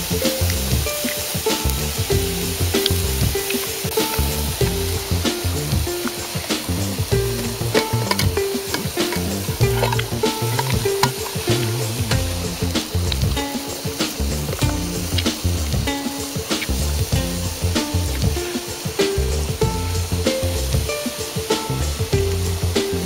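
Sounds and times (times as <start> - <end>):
background music with low notes: 0.0 - 23.0
bonfire crackling and popping: 0.0 - 23.0.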